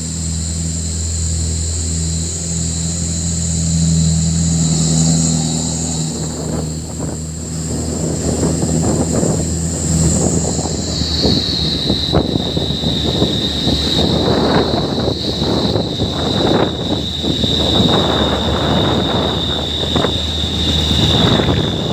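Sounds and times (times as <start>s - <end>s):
truck engine droning: 0.0s - 21.9s
high whistling: 0.1s - 21.9s.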